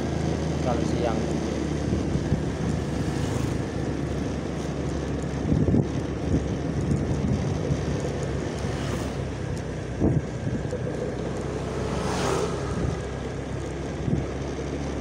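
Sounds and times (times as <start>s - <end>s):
motorcycle engine running: 0.0s - 15.0s
road noise: 0.0s - 15.0s
wind rushing on microphone: 1.8s - 15.0s.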